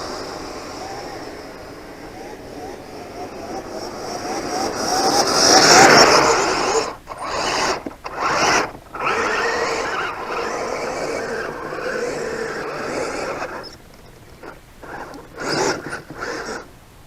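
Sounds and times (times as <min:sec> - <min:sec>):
electric motor whining: 0:00.0 - 0:16.7.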